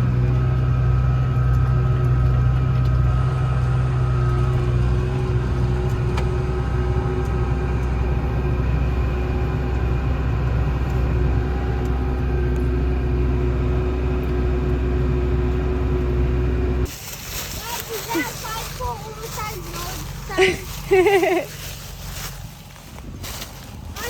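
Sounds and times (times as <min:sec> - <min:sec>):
diesel engine low hum: 0:00.0 - 0:24.0.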